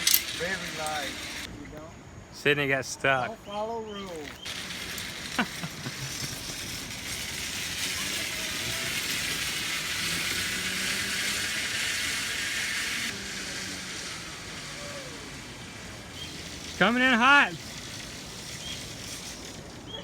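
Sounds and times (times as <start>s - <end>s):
zipline pulleys running on cable: 0.0s - 1.5s, 4.0s - 20.0s.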